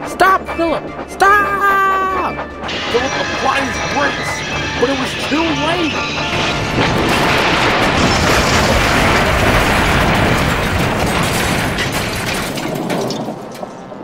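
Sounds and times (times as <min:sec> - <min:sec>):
low rumble: 0:02.3 - 0:14.0
metal crashing and clattering: 0:02.7 - 0:14.0.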